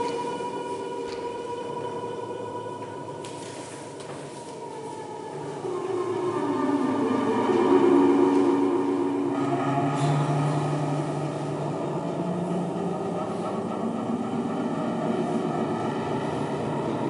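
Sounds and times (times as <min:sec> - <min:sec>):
layered sustained drones: 0:00.0 - 0:17.0.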